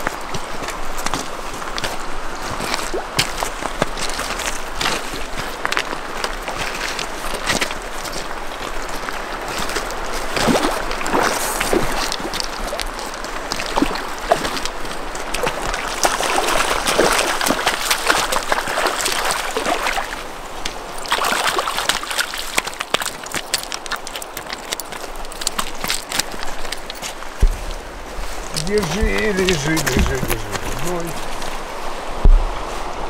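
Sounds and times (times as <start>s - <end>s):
fish splashing and thrashing: 0.0s - 31.8s
river water rushing: 0.0s - 33.0s.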